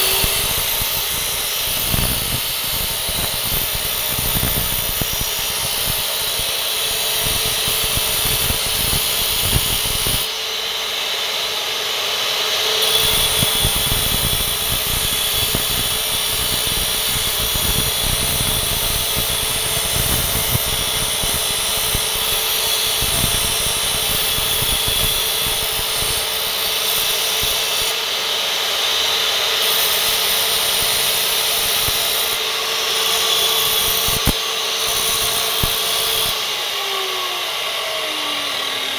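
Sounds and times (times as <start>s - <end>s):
cut-off saw motor whine: 0.0s - 38.9s.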